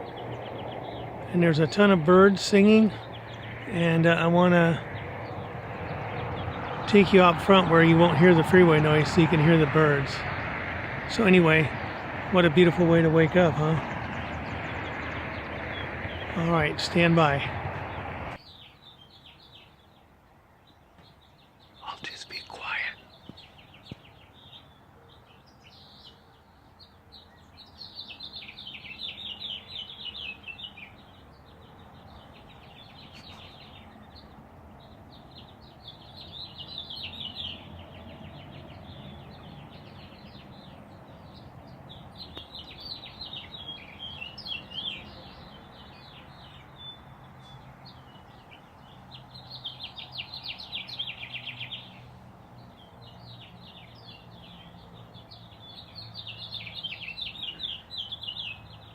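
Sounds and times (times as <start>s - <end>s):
bird song bursts of rapid notes: 0.0s - 58.9s
faint bird chirping: 11.1s - 58.9s.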